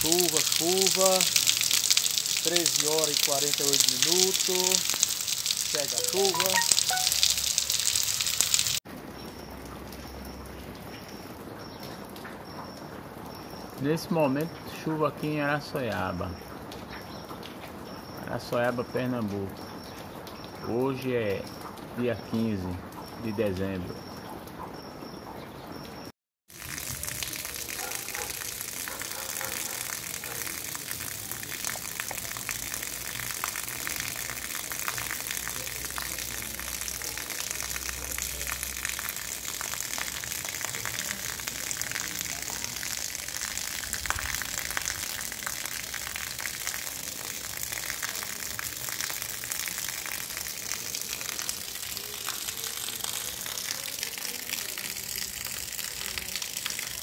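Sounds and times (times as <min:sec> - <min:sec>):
steady rain on street: 0:00.0 - 0:57.0.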